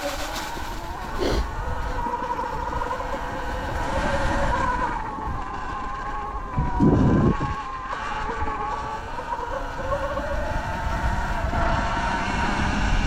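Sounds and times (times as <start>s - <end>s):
electric motor whining: 0.0s - 13.0s
trail rumble and wind: 0.0s - 13.0s.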